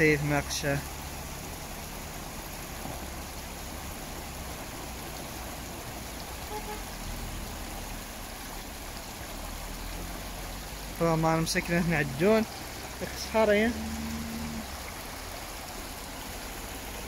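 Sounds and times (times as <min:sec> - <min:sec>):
floodwater rushing over gravel: 0:00.0 - 0:17.0.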